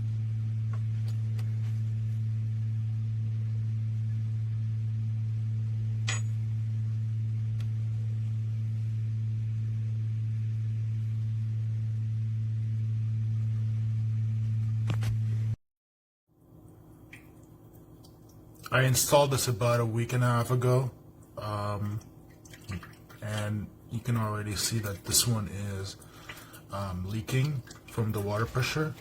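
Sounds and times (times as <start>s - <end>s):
low electrical hum: 0.0s - 15.6s, 16.3s - 29.0s.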